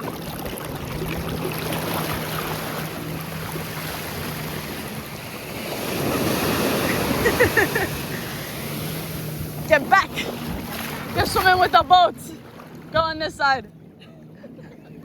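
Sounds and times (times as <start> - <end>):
wind buffeting microphone: 0.0 - 13.9
motorboat engine hum: 0.0 - 15.0
ocean surf washing in: 1.4 - 13.6.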